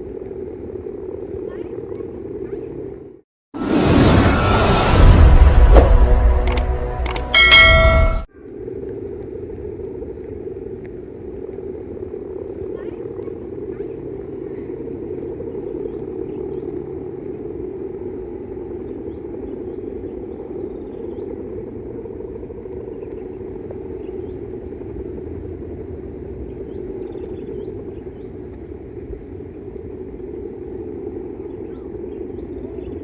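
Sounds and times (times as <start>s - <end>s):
steady droning hum: 4.0s - 33.0s.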